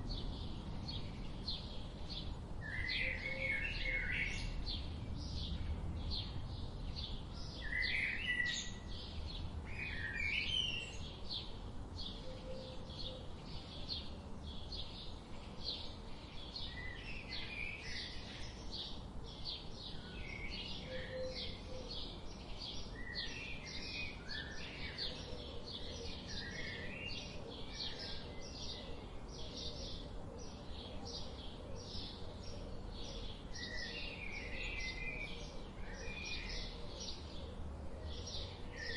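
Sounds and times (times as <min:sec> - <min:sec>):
low steady background rumble: 0:00.0 - 0:38.9
songbirds singing and chirping: 0:00.0 - 0:38.9.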